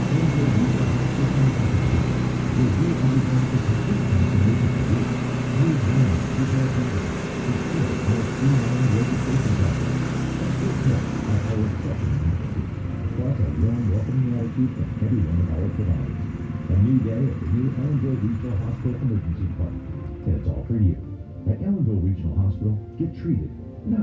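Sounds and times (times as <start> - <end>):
sawmill engine droning: 0.0 - 24.0.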